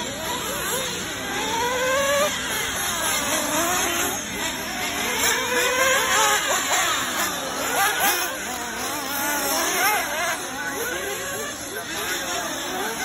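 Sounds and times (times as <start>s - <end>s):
toy race car motors whining: 0.0s - 13.0s.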